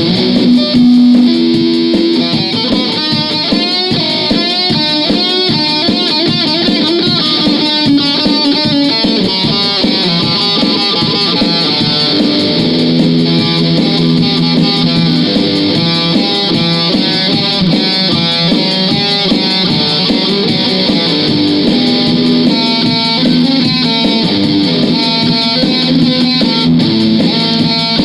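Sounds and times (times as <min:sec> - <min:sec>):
guitar playing riffs: 0:00.0 - 0:28.0.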